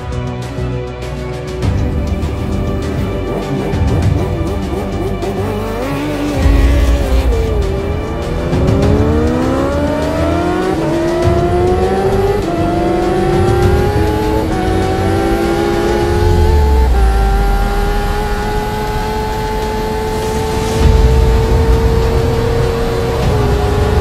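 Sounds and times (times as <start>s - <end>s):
motorcycle engine accelerating: 1.9s - 24.0s.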